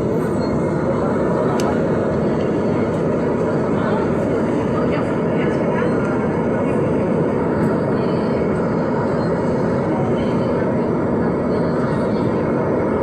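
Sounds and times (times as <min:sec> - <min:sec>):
city bus engine running: 0:00.0 - 0:13.0.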